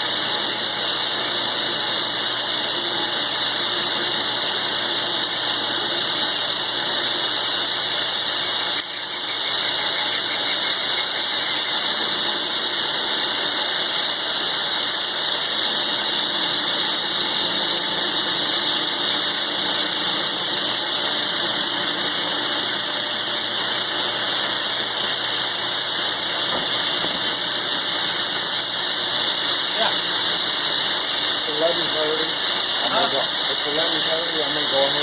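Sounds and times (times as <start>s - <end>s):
milling machine cutting steel: 0.0s - 35.0s
milling machine running: 0.0s - 35.0s.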